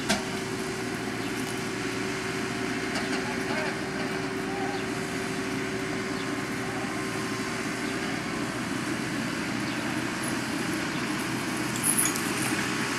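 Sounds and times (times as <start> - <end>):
tractor engine running under load: 0.0 - 12.9.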